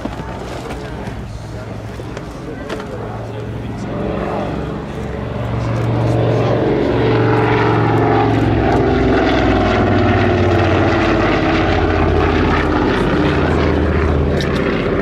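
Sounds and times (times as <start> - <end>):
aircraft propeller engines droning: 0.0 - 15.0.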